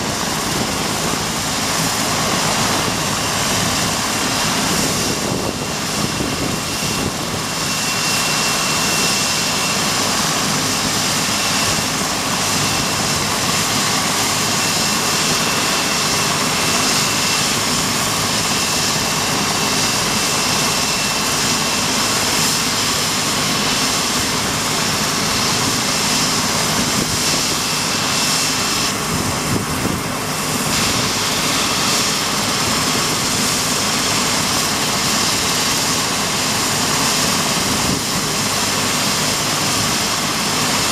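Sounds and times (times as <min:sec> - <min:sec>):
helicopter engine and rotor roar: 0:00.0 - 0:40.9
high turbine whine: 0:00.0 - 0:40.9.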